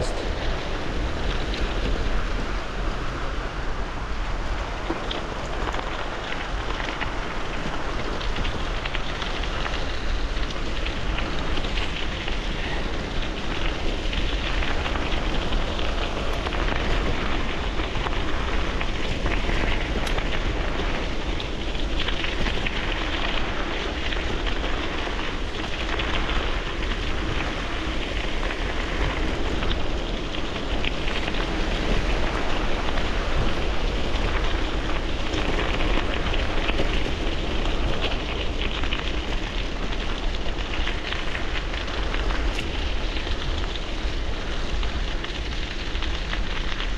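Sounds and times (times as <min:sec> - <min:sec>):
bicycle tyres rolling over gravel: 0:00.0 - 0:46.9
wind on microphone: 0:00.0 - 0:46.9.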